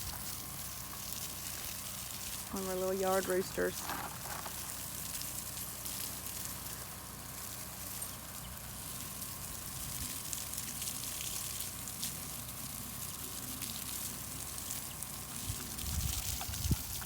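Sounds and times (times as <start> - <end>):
water spraying from hose: 0.0 - 17.0.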